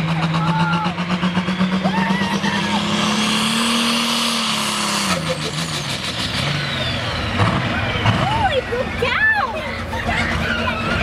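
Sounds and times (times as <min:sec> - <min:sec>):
diesel tractor engine running hard: 0:00.0 - 0:11.0.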